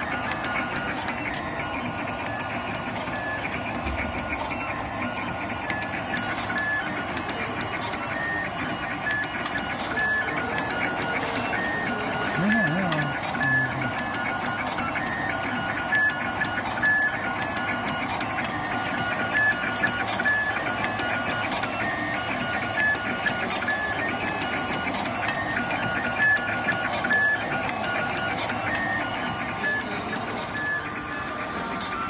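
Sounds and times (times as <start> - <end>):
machine motors whining: 0.0 - 32.0.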